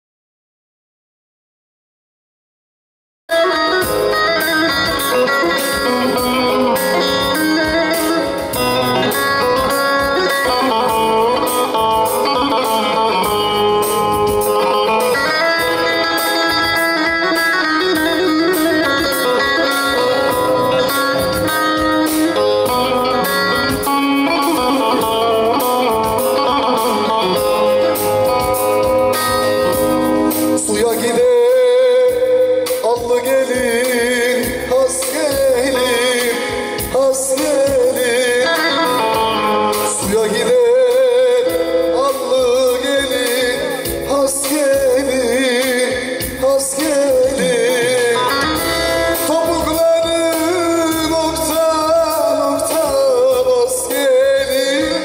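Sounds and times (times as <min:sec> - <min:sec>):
man singing: 0:03.3 - 0:28.8, 0:30.4 - 0:55.0
electronic keyboard accompaniment: 0:03.3 - 0:55.0.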